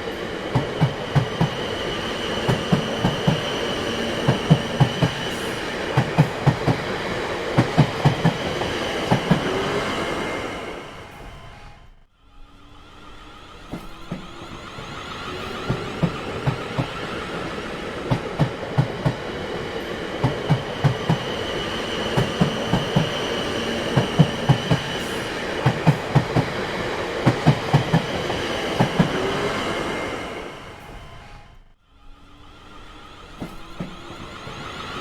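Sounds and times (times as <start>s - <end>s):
train wheels clacking on rails: 0.0s - 11.7s, 13.2s - 31.4s, 32.5s - 35.0s.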